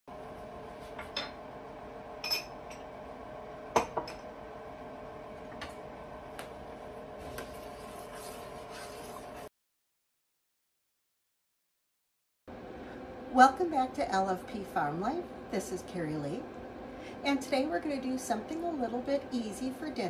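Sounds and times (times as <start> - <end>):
steady hum: 0.1 - 9.5, 12.5 - 20.0.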